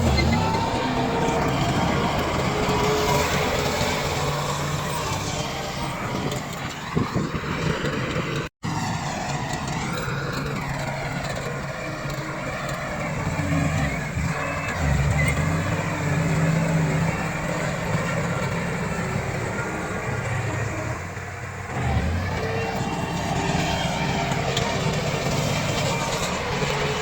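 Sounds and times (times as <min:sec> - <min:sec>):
bulldozer engine under load: 0:00.0 - 0:27.0.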